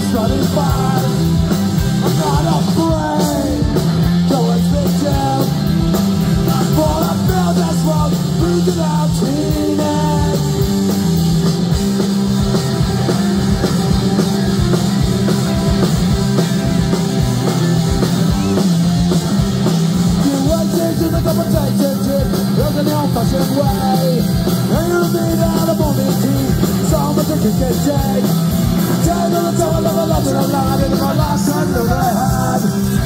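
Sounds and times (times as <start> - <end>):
punk rock band playing: 0.0 - 33.0.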